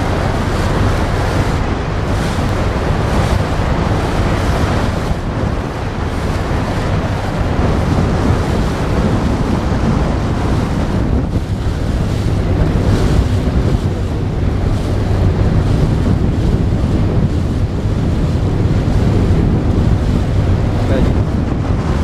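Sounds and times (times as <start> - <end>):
water rushing: 0.0 - 22.0
wind buffeting microphone: 0.0 - 22.0.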